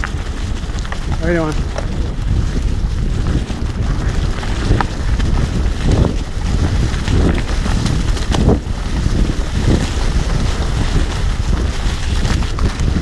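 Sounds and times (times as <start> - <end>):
bike tyres rolling on dirt: 0.0 - 13.0
wind buffeting microphone: 0.0 - 13.0.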